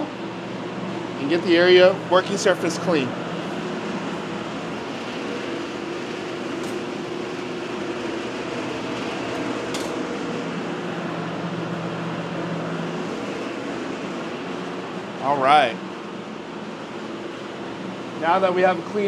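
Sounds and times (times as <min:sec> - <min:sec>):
blower fans rushing air: 0:00.0 - 0:19.0.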